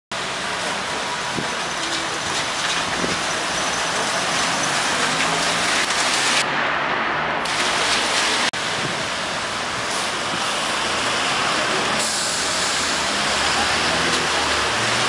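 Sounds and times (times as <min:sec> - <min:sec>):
rain on a wet street: 0:00.1 - 0:06.8, 0:07.4 - 0:15.0
car engines running: 0:00.1 - 0:15.0
tyres on wet road: 0:00.1 - 0:15.0.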